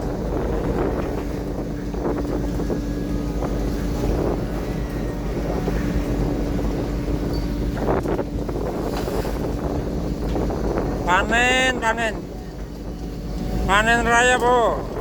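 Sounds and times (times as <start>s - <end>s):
boat engine humming: 0.0s - 15.0s
wind buffeting microphone: 0.0s - 15.0s.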